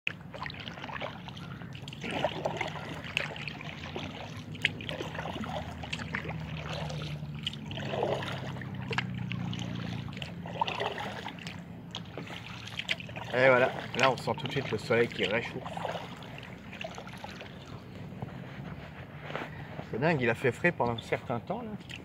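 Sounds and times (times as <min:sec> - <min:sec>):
low steady hum: 0:00.1 - 0:22.0
paddle splashing water: 0:00.1 - 0:22.0.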